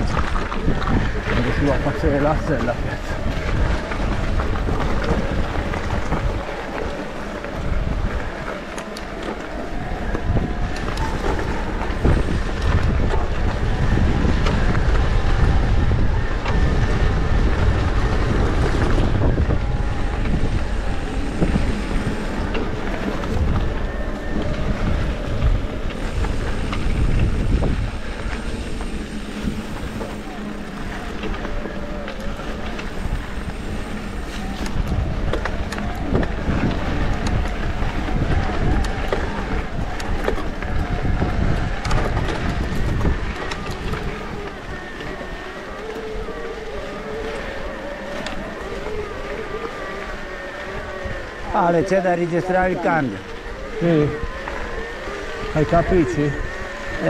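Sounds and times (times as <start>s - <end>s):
bike tyres rattling over dirt: 0.0s - 57.0s
wind buffeting microphone: 0.0s - 57.0s.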